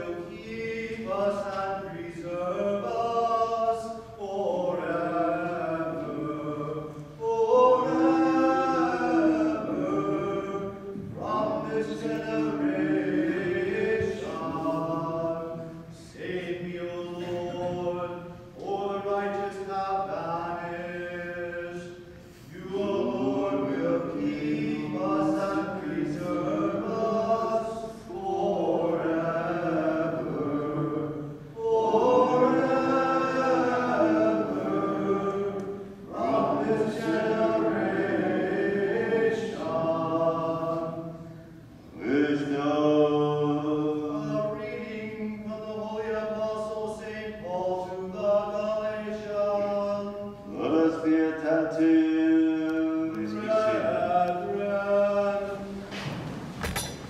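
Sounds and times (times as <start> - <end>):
group singing liturgical chant: 0.0 - 56.6.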